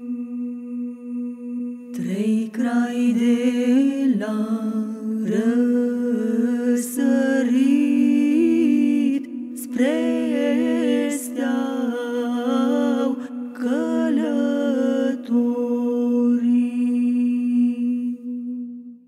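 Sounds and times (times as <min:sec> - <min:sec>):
voices singing unaccompanied: 0:00.0 - 0:18.8.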